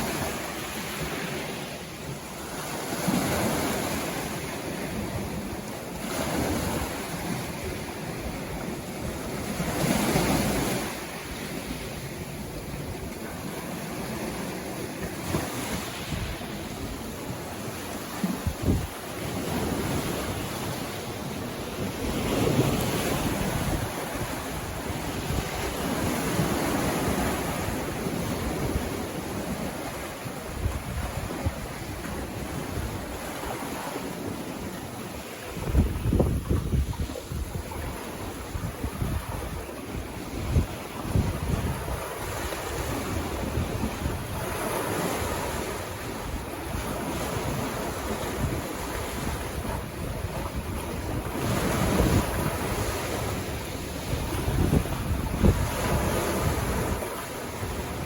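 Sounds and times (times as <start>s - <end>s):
sea waves breaking on beach: 0.0s - 58.0s
wind rumbling on microphone: 0.0s - 58.0s.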